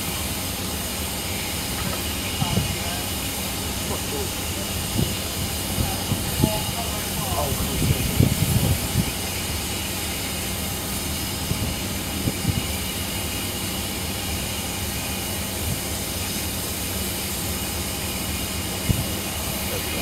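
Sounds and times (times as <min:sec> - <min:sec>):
standing trains humming: 0:00.0 - 0:20.0.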